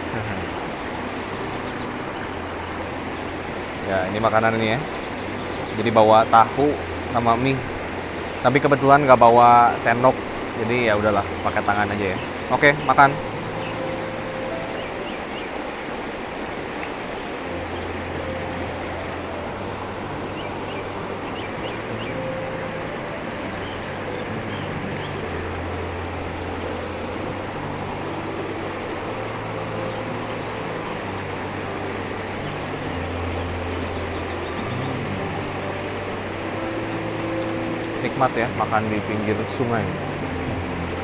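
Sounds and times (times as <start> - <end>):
river rushing over rocks: 0.0 - 41.0
soft background music: 0.0 - 41.0.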